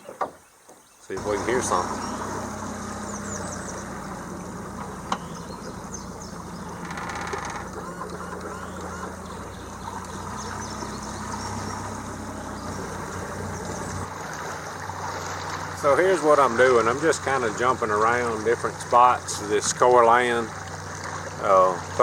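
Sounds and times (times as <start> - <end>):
outboard motor idling: 1.0 - 22.0.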